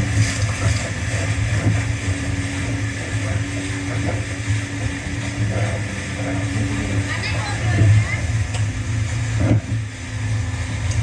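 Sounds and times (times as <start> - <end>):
jet ski engine running: 0.0 - 11.0
water rushing: 0.0 - 11.0.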